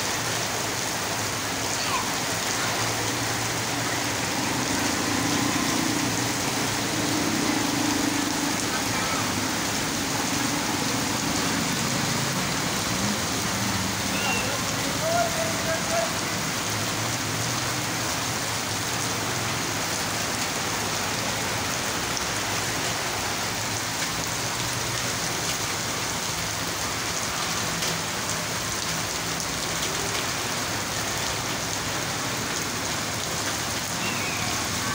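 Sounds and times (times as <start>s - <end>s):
heavy rain splashing on street: 0.0s - 34.9s.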